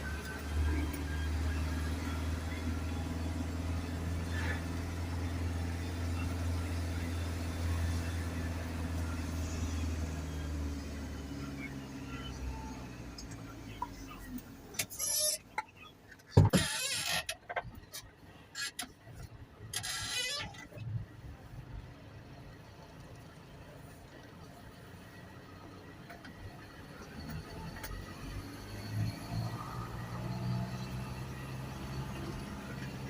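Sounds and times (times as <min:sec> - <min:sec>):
garbage truck diesel engine: 0:00.0 - 0:16.5, 0:17.4 - 0:33.0.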